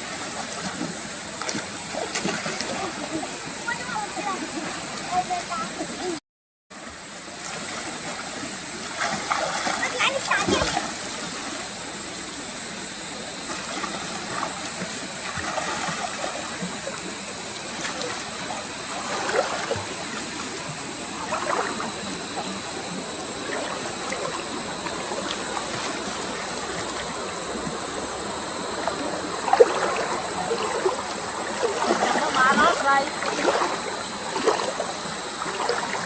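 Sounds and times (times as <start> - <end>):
shallow water sloshing and splashing: 0.0 - 6.0, 7.3 - 11.8, 13.4 - 36.0.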